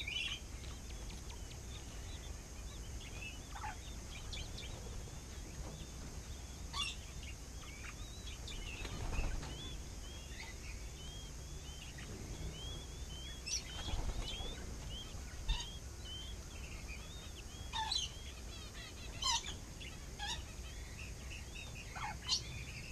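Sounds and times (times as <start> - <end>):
quail chicks peeping: 0.0 - 22.9
sharp bird calls: 0.0 - 22.9.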